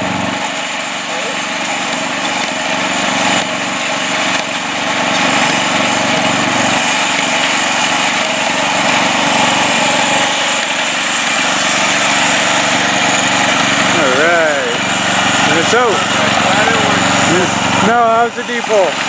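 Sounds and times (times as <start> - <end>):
lawn tractor engine under load: 0.0 - 19.0.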